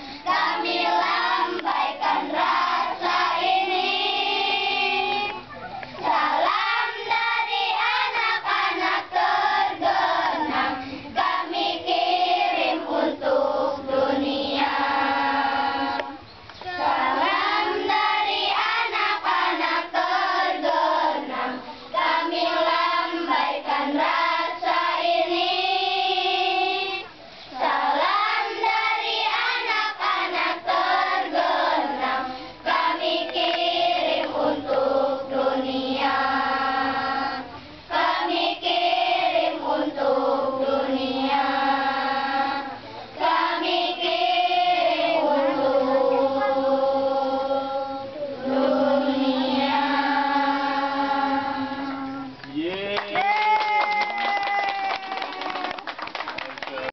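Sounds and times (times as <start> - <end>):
children's choir singing: 0.0 - 52.7.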